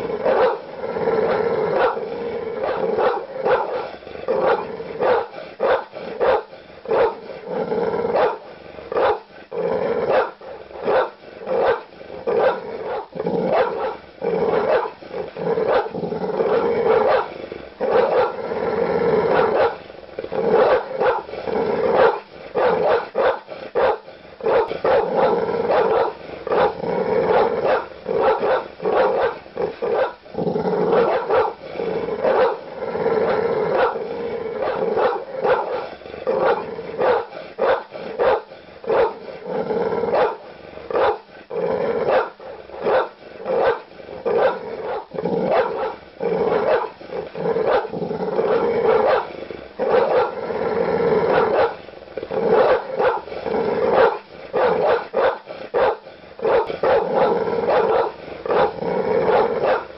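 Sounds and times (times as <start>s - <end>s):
dog growling: 0.0s - 59.9s
large dog barking aggressively: 0.0s - 59.9s.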